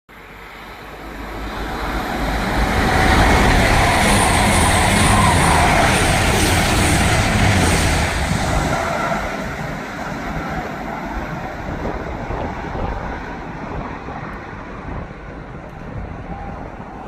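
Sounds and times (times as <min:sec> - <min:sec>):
diesel train passing: 0:00.1 - 0:17.0.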